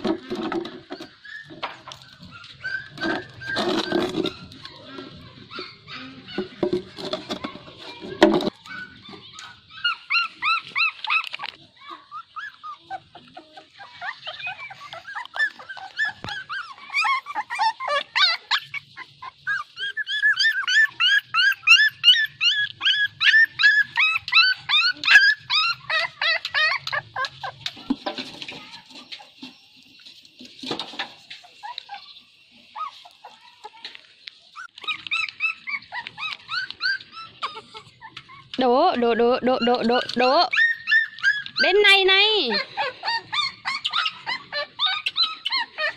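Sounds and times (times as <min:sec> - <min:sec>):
puppies whimpering: 0:00.0 - 0:30.2, 0:30.8 - 0:45.9.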